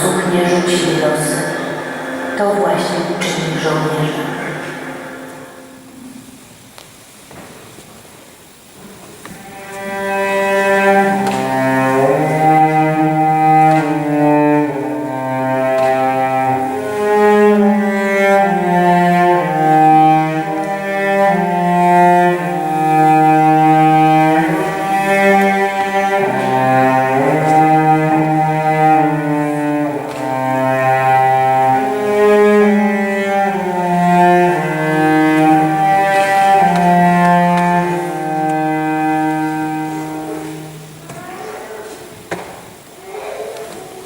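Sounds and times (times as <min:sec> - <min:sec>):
slow bowed-string music: 0:00.0 - 0:06.4, 0:09.2 - 0:41.1.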